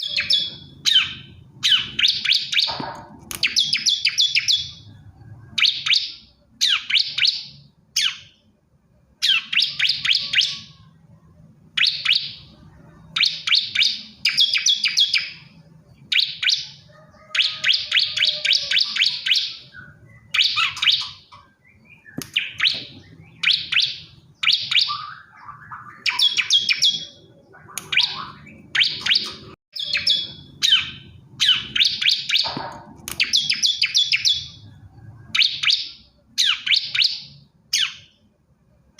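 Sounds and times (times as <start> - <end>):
bird singing rapid high chirps: 0.0 - 8.5, 9.2 - 11.0, 11.6 - 38.3.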